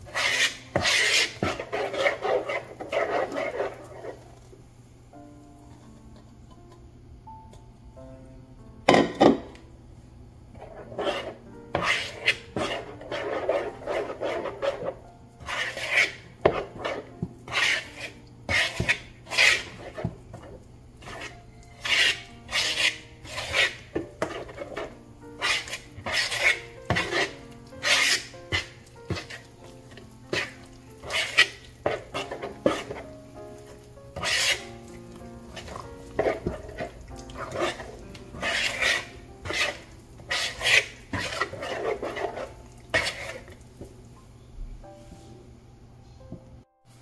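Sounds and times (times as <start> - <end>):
utensil stirring thick batter in bowl: 0.0 - 4.5, 10.5 - 44.0.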